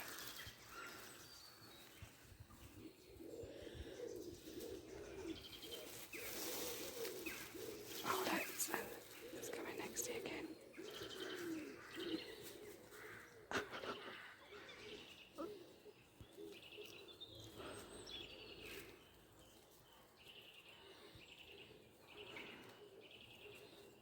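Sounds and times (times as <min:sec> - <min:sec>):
small birds chirping trills: 0:00.0 - 0:24.0.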